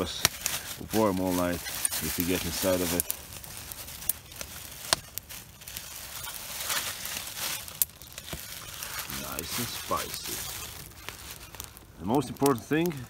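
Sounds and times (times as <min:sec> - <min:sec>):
aluminium foil crinkling: 0:00.0 - 0:13.0
plastic bag rustling: 0:00.0 - 0:13.0.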